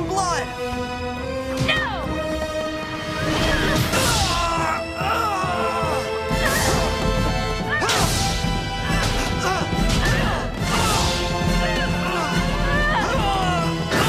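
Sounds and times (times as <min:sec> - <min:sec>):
dramatic background music: 0:00.0 - 0:14.0.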